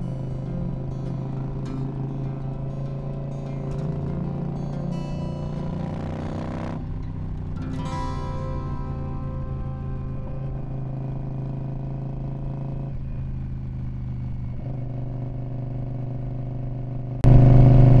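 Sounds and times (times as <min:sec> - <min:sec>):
motorcycle engine cruising: 0:00.0 - 0:18.0.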